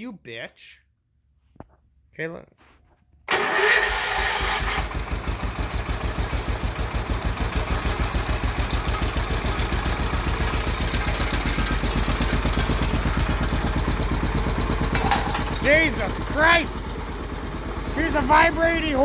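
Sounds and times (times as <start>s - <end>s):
single-cylinder engine running: 3.3s - 19.0s.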